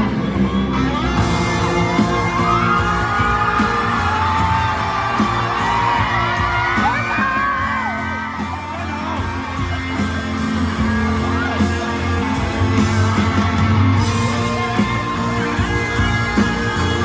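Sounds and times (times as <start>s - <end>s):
audience yelling and whooping: 0.0s - 17.0s
live rock band playing: 0.0s - 17.0s.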